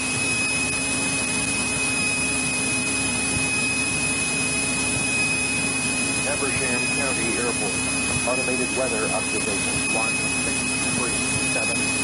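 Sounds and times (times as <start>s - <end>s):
airplane engine and propeller drone: 0.0s - 12.0s
thin high whine: 0.0s - 12.0s.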